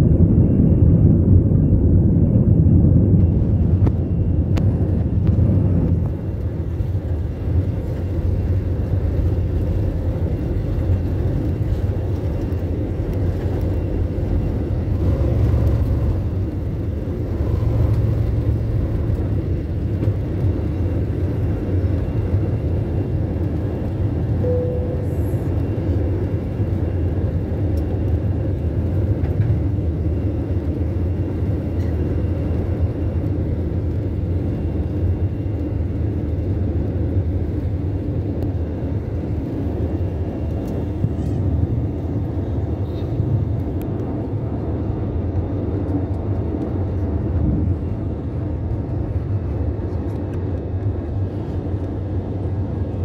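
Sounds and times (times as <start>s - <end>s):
jet engine rumble: 0.0s - 53.0s.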